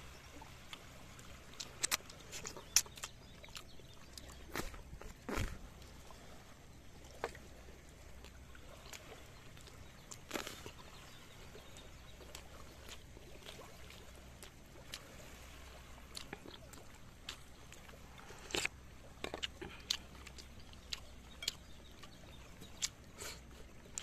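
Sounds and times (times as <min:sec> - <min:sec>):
small waves lapping: 0:00.0 - 0:24.0.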